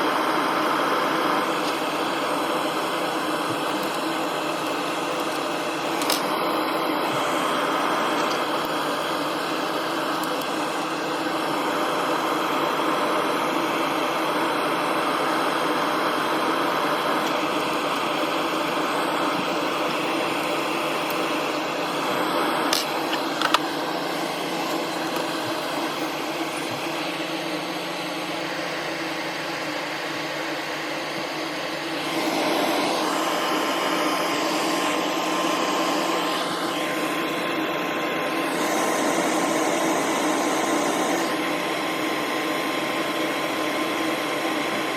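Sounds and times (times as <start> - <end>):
machine whirring: 0.0 - 44.9.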